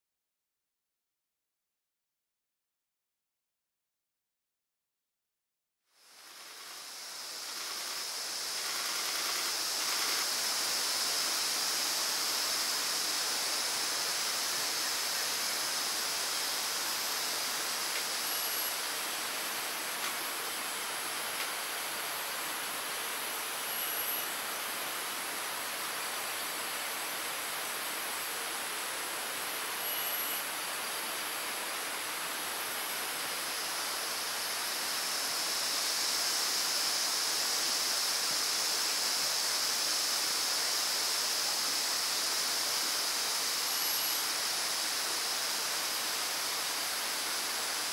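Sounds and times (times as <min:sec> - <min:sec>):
forest background hiss: 0:05.9 - 0:47.9.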